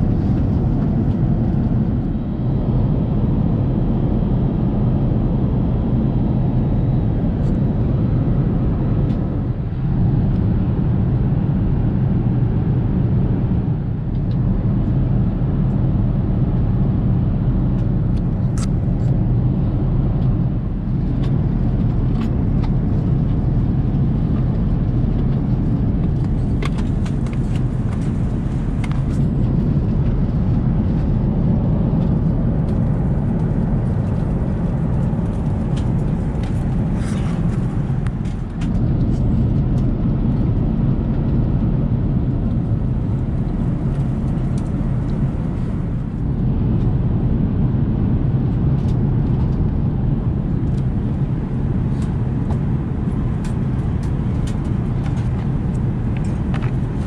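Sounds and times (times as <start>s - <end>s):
airplane cabin noise in flight: 0.0s - 57.0s.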